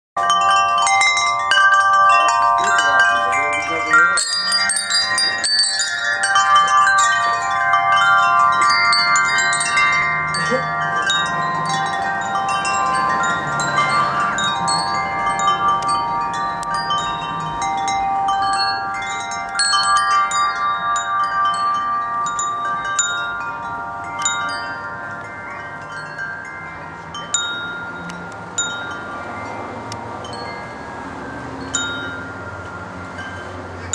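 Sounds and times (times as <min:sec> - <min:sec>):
wind chimes ringing: 0:00.2 - 0:33.9.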